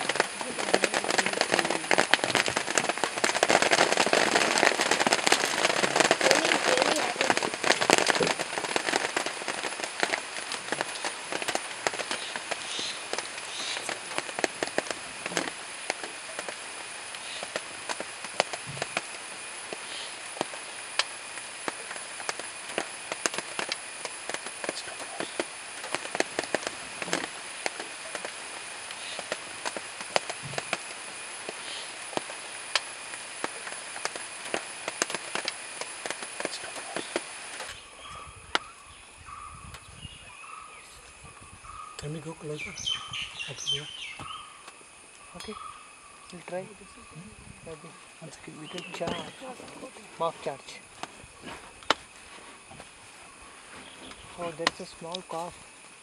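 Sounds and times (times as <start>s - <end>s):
plants crackling and snapping: 0.0s - 39.9s, 41.7s - 56.0s
insects droning: 0.0s - 56.0s.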